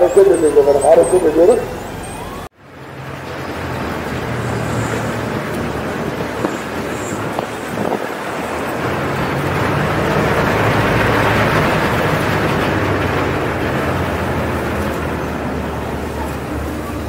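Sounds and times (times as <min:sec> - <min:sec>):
boat engine humming: 0:00.0 - 0:17.0
rushing water noise: 0:02.6 - 0:17.0.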